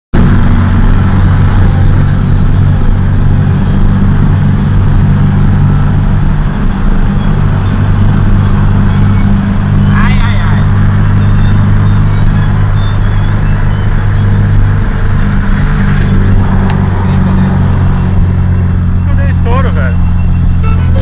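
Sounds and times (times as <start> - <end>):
car engine running steadily: 0.1 - 21.0.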